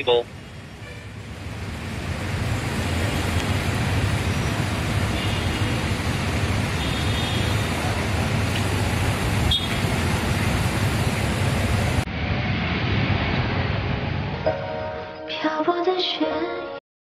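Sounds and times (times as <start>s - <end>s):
road traffic rumble: 0.0s - 14.8s.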